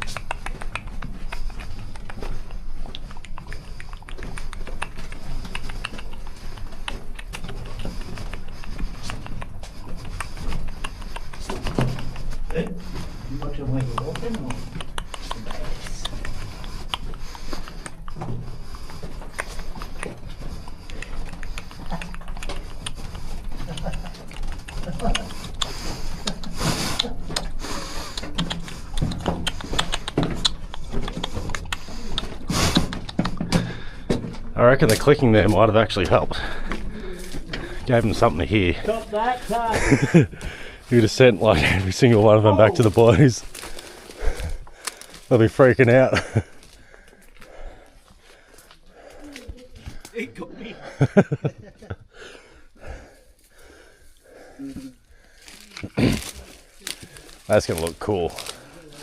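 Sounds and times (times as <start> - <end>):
rapid irregular clicking: 0.0 - 50.2, 55.2 - 59.0.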